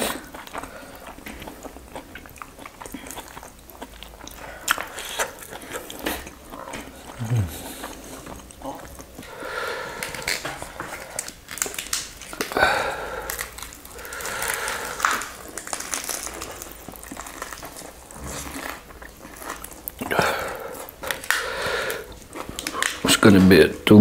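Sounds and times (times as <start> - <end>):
close chewing and crunching: 0.0 - 23.7.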